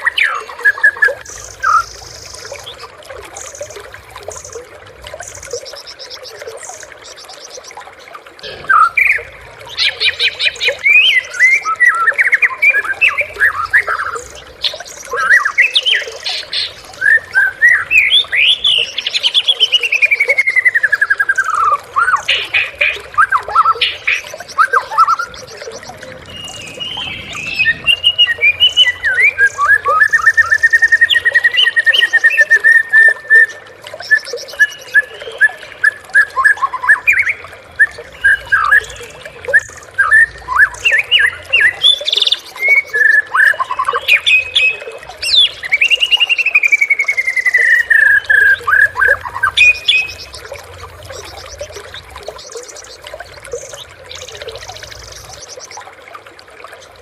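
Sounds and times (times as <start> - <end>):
songbird singing: 5.2 - 55.9.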